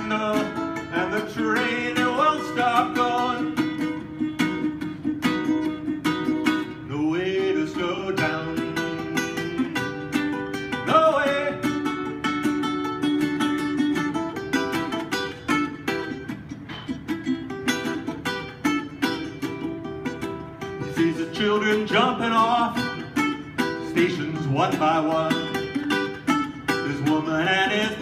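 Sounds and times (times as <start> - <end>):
ukulele strumming: 0.0 - 28.0.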